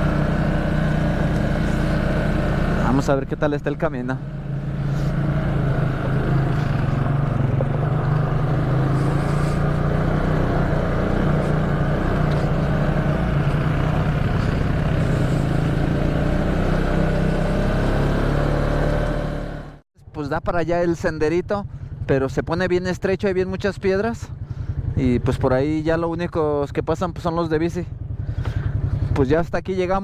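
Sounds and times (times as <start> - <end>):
quad bike engine running: 0.0 - 19.8, 21.6 - 29.4.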